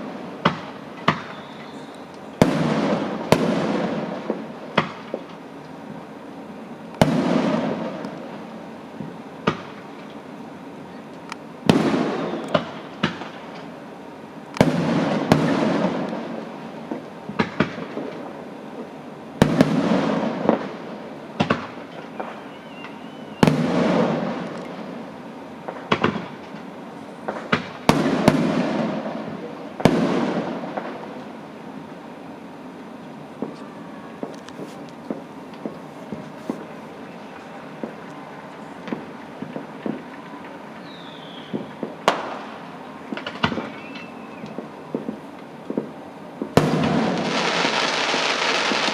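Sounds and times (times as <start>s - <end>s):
fireworks bangs with echo: 0.0s - 5.4s, 7.0s - 10.0s, 11.6s - 13.7s, 14.6s - 31.4s, 33.3s - 48.9s
sharp firework cracks: 0.0s - 5.4s, 7.0s - 8.5s, 9.4s - 10.2s, 11.3s - 13.8s, 14.6s - 31.3s, 33.4s - 48.9s.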